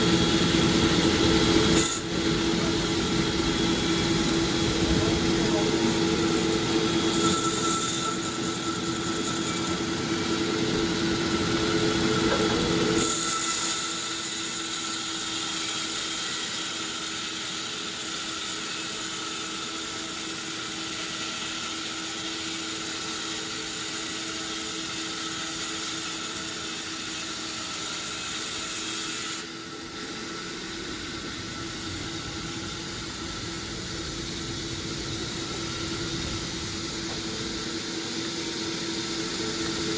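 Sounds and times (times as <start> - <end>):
high-pitched whine: 0.0 - 39.9
sawmill machinery humming: 0.0 - 39.9.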